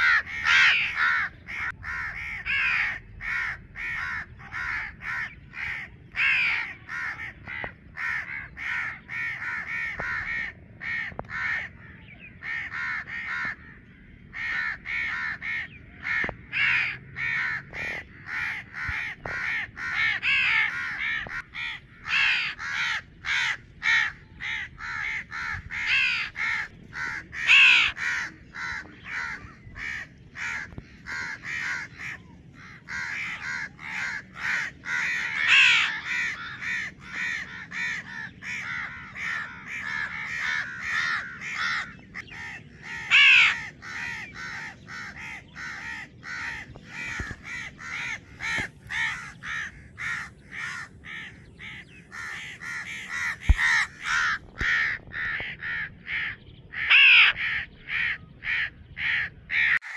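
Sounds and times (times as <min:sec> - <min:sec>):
crows cawing: 0:00.0 - 0:59.9
fledgling crow calling: 0:00.0 - 0:59.9.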